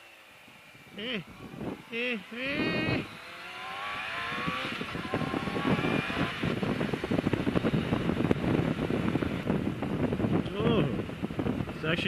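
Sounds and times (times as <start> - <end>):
motorcycle engine accelerating: 0.0 - 12.0
wind buffeting the microphone: 1.3 - 3.3, 4.2 - 12.0.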